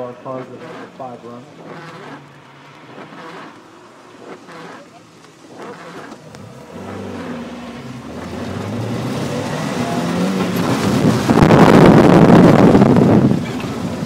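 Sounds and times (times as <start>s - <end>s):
car engine accelerating hard: 0.0s - 14.0s
tires rushing on wet pavement: 0.0s - 14.0s.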